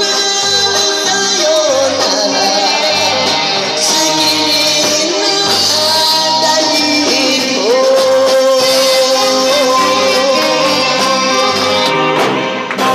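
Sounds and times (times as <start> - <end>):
woman singing into a microphone: 0.0 - 12.1
bass guitar notes: 0.0 - 12.9
live band playing: 0.0 - 12.9.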